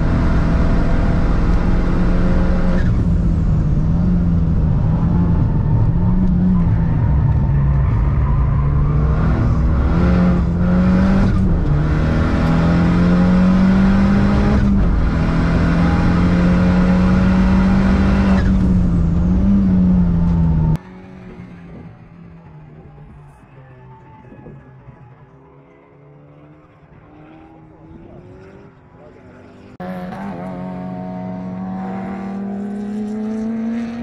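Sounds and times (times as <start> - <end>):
car engine at high revs: 0.0 - 34.0.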